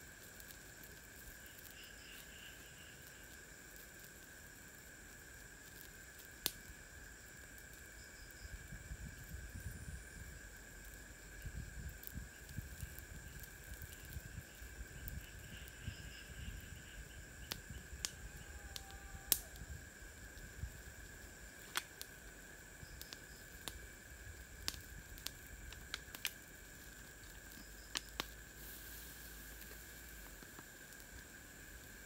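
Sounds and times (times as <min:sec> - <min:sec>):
campfire crackling and popping: 0:00.0 - 0:32.0
forest insects droning: 0:00.0 - 0:32.0.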